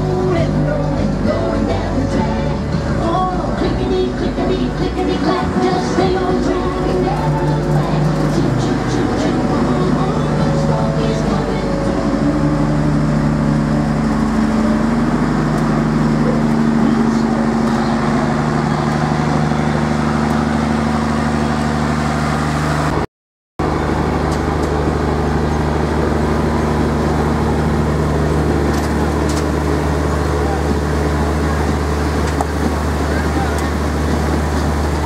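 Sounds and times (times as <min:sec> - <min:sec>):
loud engine drone: 0:00.0 - 0:35.0.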